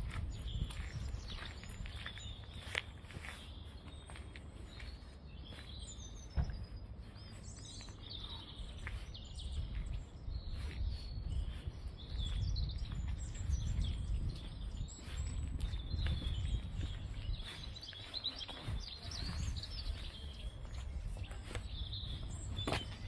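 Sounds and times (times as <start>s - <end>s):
small birds chirping and twittering: 0.0s - 23.0s.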